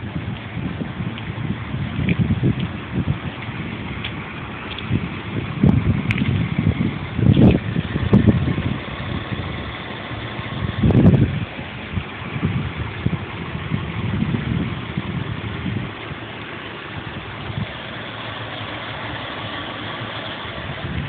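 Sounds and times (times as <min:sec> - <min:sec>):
uneven low thumps: 0:00.0 - 0:19.2
car engine idling: 0:00.0 - 0:21.0.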